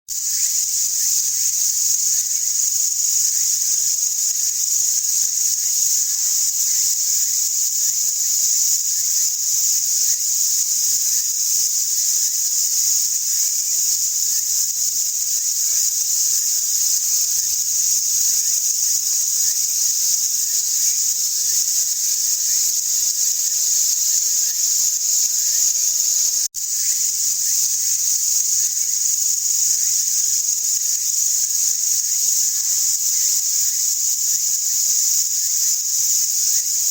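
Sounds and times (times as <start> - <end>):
high-pitched insect chorus: 0.1 - 36.9.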